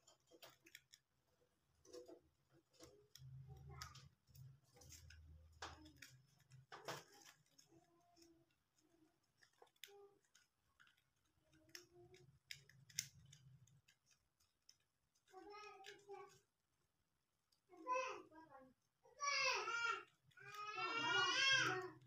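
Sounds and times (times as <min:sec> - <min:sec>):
faint scattered clicks: 0:00.0 - 0:18.3, 0:19.2 - 0:22.0.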